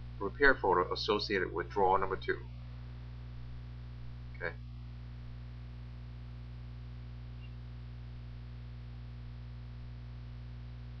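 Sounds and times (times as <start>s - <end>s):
mains hum with faint hiss: 0.0s - 11.0s.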